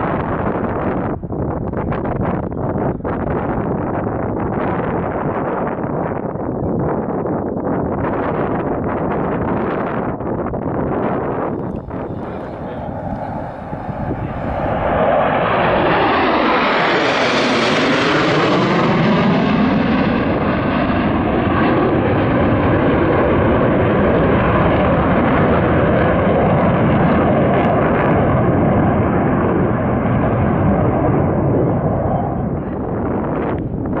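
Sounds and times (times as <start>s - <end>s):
jet engines flying overhead: 0.0s - 34.0s.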